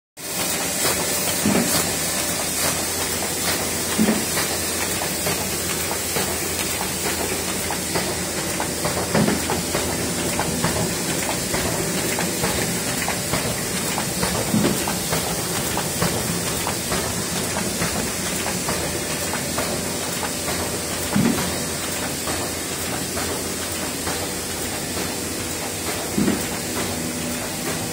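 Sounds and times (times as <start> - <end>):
printing press clattering: 0.2 - 27.9.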